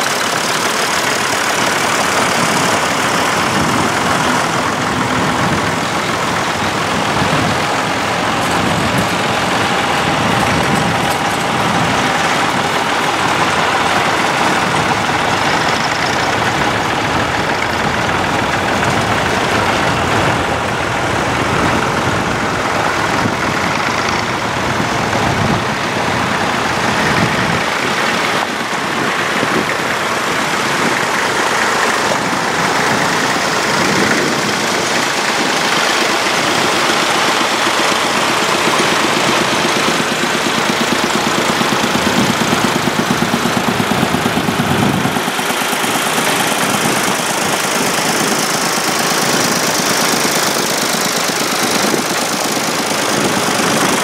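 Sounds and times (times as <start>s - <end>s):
slow even engine beat: 0.0s - 54.0s
tractor engines driving past: 0.0s - 54.0s.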